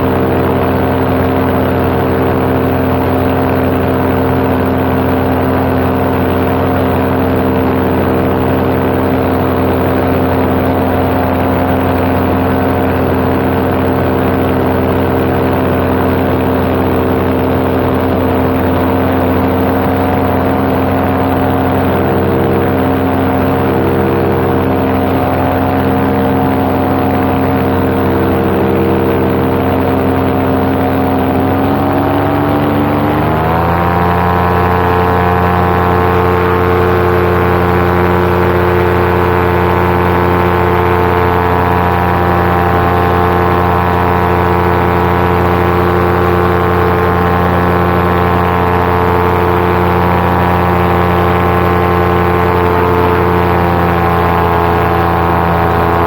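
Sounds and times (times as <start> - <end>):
paramotor engine and propeller droning: 0.0 - 56.0.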